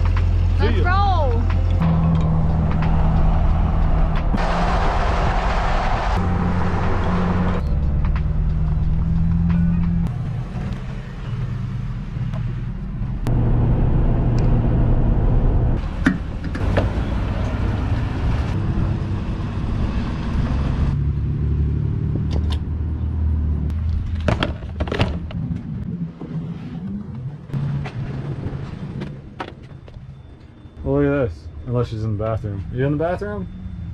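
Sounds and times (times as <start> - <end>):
truck engine and road noise: 0.0 - 33.9.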